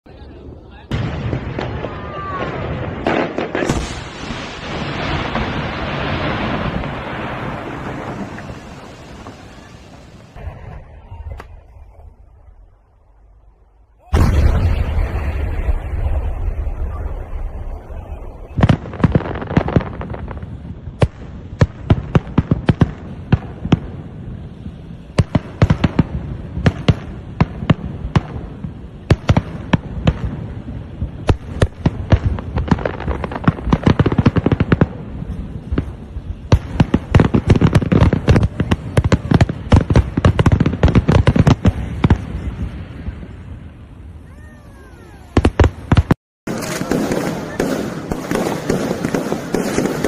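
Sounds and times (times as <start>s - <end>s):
fireworks bursting: 0.4s - 13.2s, 14.0s - 50.0s.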